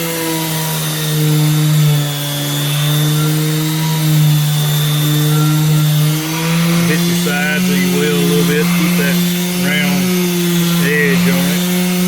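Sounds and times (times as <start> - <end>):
power sander on metal wheel: 0.0 - 12.0.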